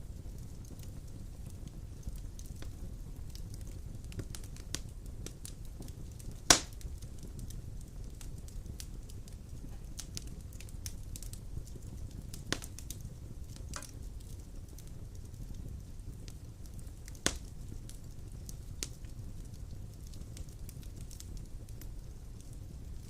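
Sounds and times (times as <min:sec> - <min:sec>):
logs burning with crackles: 0:00.0 - 0:23.0.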